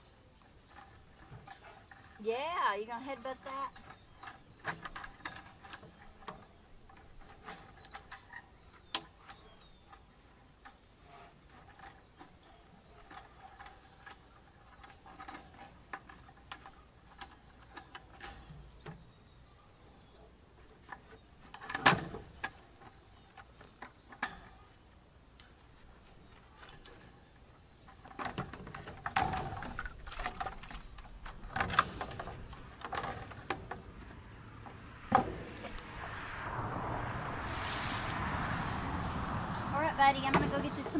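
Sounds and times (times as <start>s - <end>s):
rustling: 0.0s - 40.9s.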